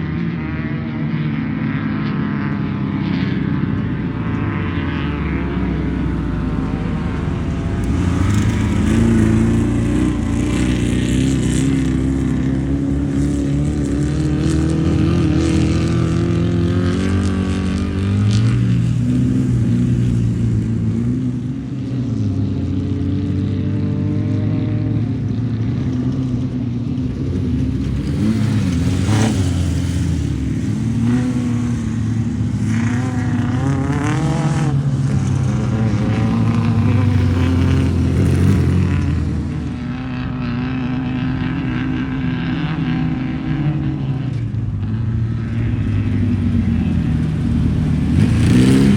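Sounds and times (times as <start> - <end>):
race car engines revving: 0.0 - 48.9.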